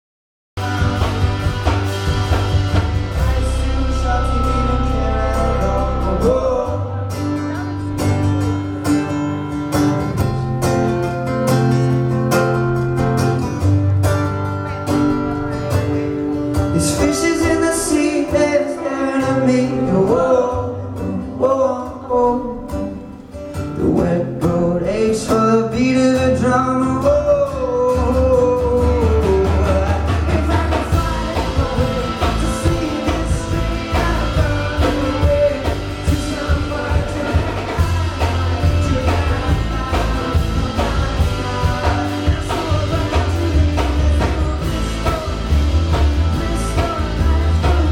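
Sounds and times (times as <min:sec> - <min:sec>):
man singing: 0:00.6 - 0:09.5, 0:16.0 - 0:47.9
guitar: 0:00.6 - 0:47.9
rock band with heavy low end: 0:00.6 - 0:47.9.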